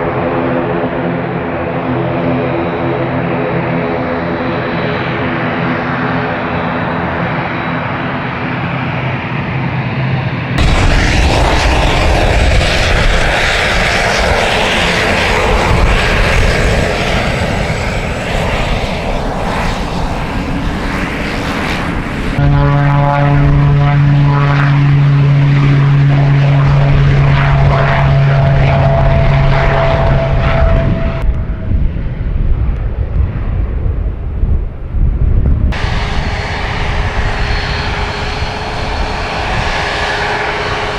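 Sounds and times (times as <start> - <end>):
airliner engines running: 0.0 - 40.9.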